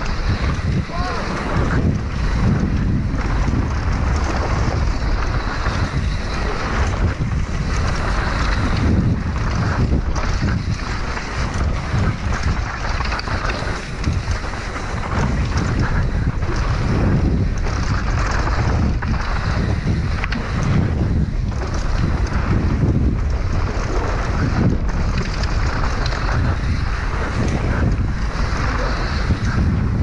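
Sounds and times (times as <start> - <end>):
bike rattles and knocks: 0.0 - 30.0
tyres rolling over dirt: 0.0 - 30.0
wind rumbling on microphone: 0.0 - 30.0.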